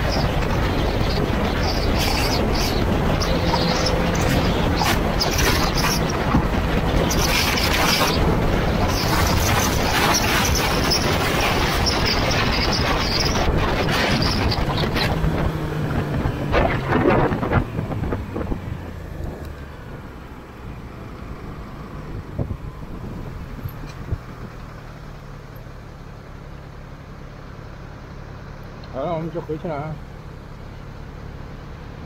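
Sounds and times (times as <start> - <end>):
wind and road rush: 0.0 - 32.0.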